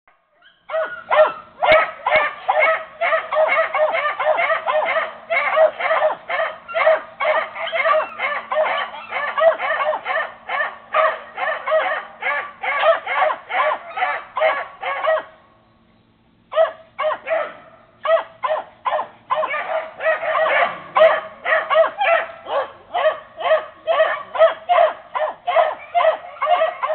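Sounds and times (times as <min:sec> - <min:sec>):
dogs barking: 0:00.4 - 0:15.4, 0:16.5 - 0:26.9.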